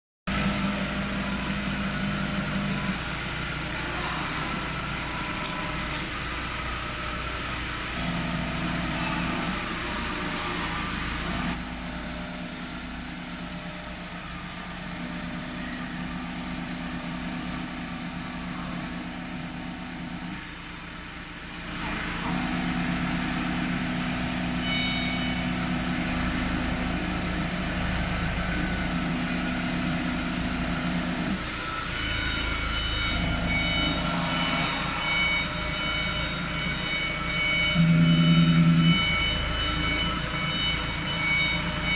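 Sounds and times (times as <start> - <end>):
cnc router motors humming: 0.3 - 41.9
loud high-pitched whine: 0.3 - 41.9.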